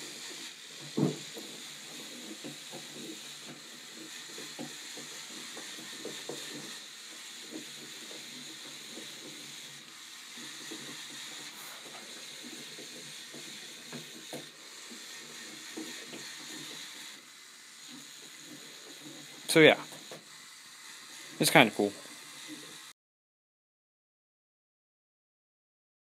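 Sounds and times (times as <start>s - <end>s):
small motors whirring: 0.0s - 23.0s.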